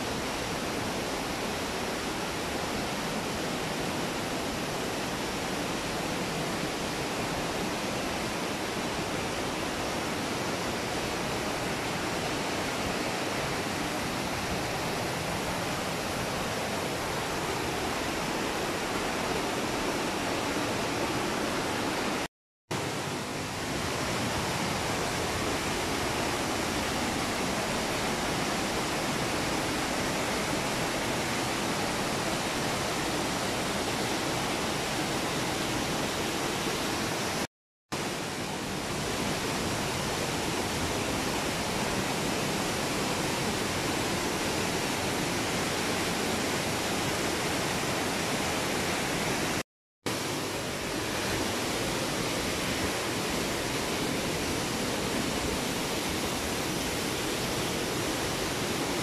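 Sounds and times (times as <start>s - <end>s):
white water rushing: 0.0s - 59.0s.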